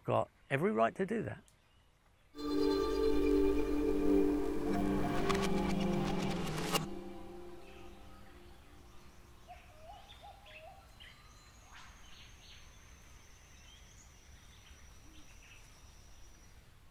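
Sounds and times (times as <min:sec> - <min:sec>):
faint birdsong: 0:00.0 - 0:06.2, 0:06.9 - 0:16.9.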